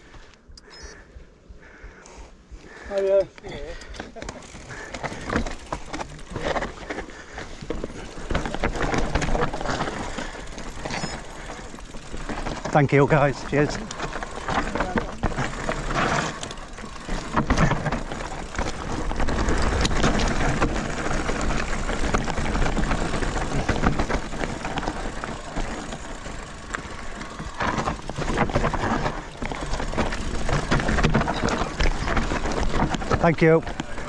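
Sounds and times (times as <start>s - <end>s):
bike rattling: 2.6s - 34.0s
bike knocking on rocks: 4.0s - 34.0s
tyres crunching over stones: 4.1s - 34.0s.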